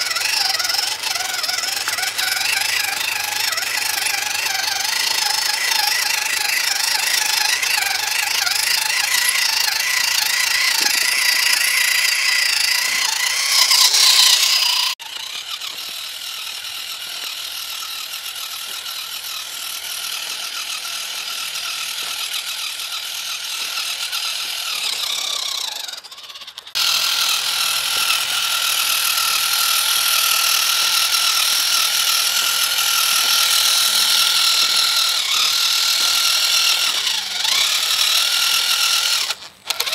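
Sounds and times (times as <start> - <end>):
small electric motor whining: 0.0 - 39.9.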